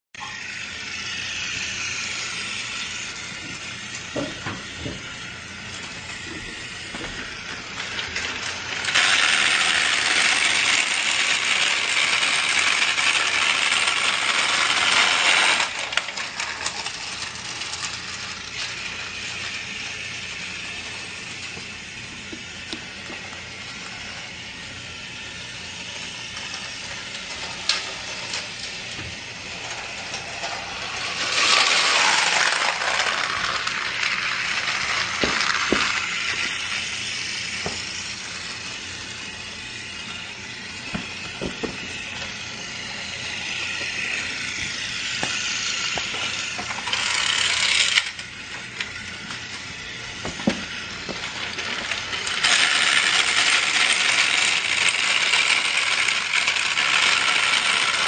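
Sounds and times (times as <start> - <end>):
toy train motor whirring: 0.2 - 58.0.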